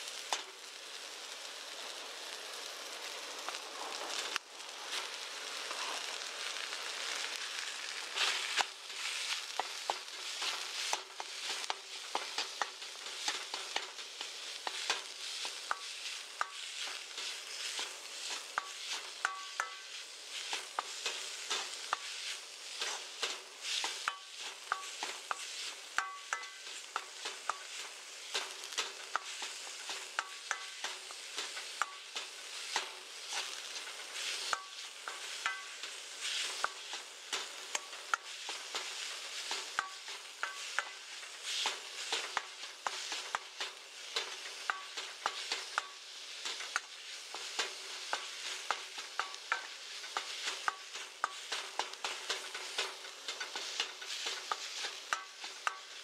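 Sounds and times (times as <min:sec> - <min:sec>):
meat sizzling in a frying pan: 0:00.0 - 0:56.0
spatula scraping and knocking pan: 0:04.2 - 0:56.0.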